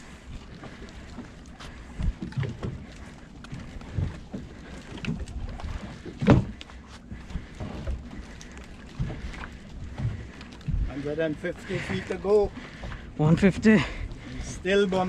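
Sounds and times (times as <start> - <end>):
water sloshing against hull: 0.0 - 15.0.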